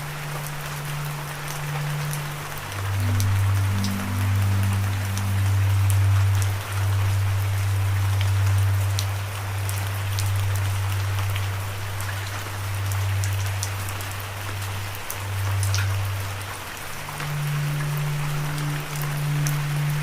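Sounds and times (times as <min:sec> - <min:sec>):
low droning note: 0:00.0 - 0:20.0
raindrops ticking: 0:00.0 - 0:20.0
steady rain falling: 0:00.0 - 0:20.0.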